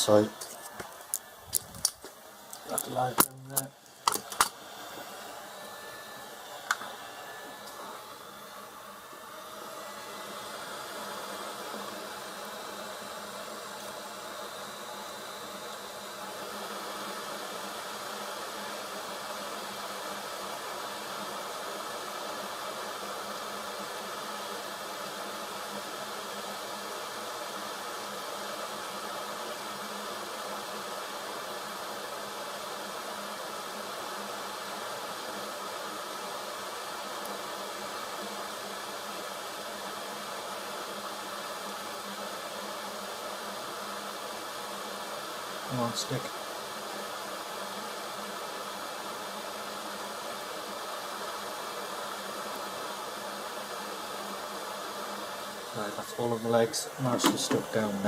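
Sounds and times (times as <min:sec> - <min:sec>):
hot-air gun hissing: 0:00.0 - 0:58.0.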